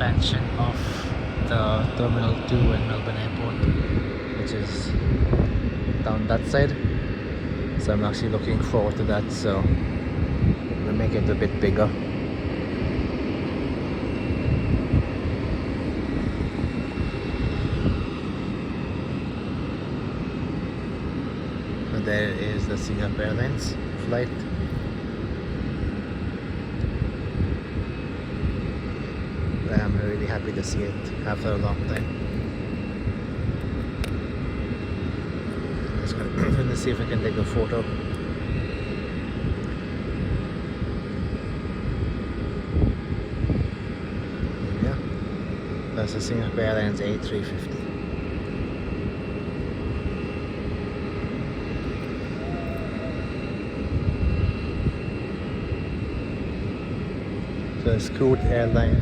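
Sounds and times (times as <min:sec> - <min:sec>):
jet engines rumbling with whine: 0:00.0 - 0:59.0.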